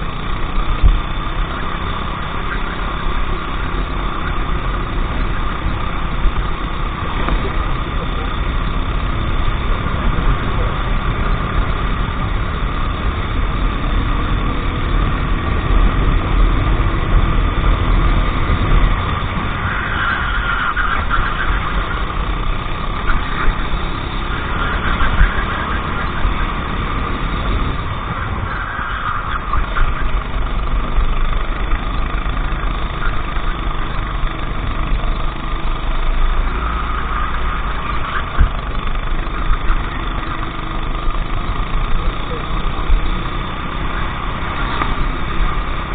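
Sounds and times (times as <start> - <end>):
go-kart engine running: 0.0 - 45.9
steady low rumble: 0.0 - 45.9.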